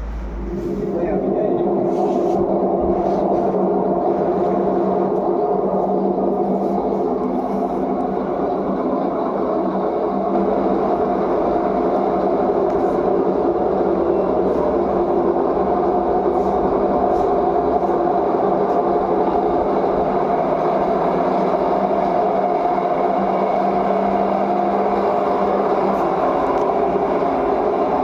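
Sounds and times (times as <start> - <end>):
washing machine droning hum: 0.0 - 28.0.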